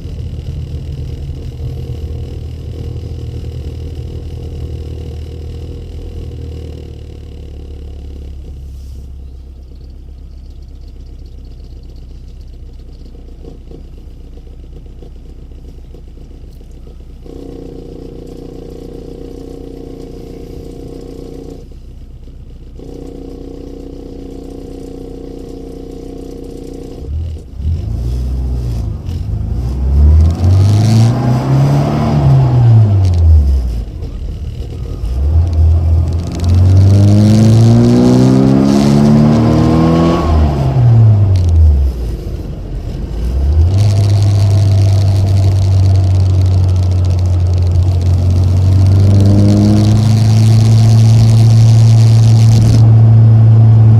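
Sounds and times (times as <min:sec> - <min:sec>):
car engine idling low: 0:00.0 - 0:53.9
car engine revving: 0:00.0 - 0:53.9.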